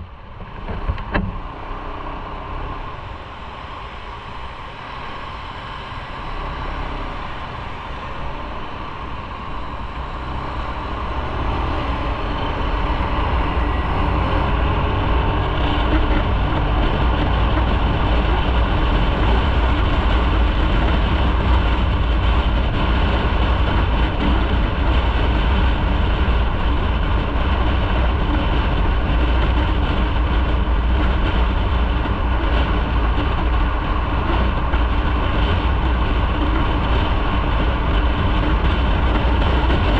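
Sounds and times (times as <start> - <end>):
motorcycle engine and road noise: 0.0 - 39.9
wind buffeting: 0.0 - 39.9.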